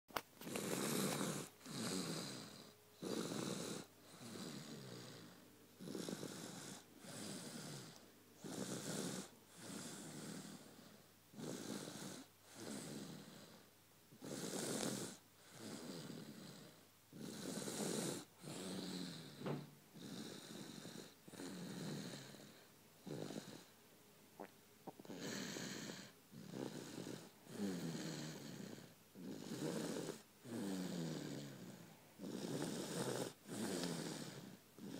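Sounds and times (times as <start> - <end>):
person snoring loudly: 0.5 - 13.6, 14.2 - 19.4, 20.0 - 23.7, 24.9 - 34.9.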